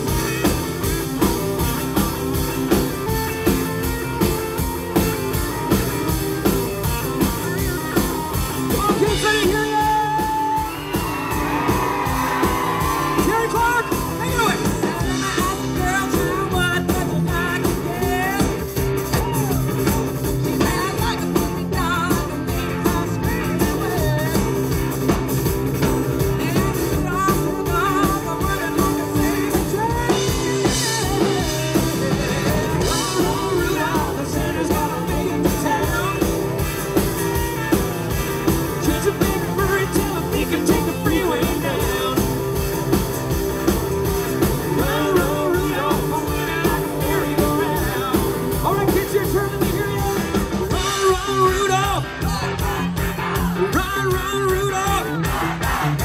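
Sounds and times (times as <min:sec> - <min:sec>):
drum kit: 0:00.0 - 0:56.0.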